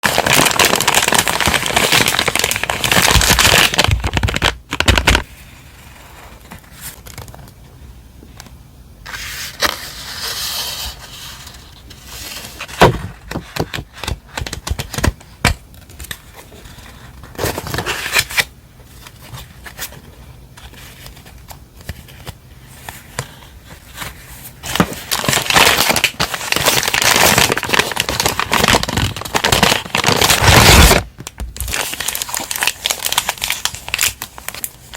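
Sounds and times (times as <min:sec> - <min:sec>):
packaging crinkling and rustling: 0:00.0 - 0:05.4, 0:06.0 - 0:07.6, 0:11.8 - 0:34.9.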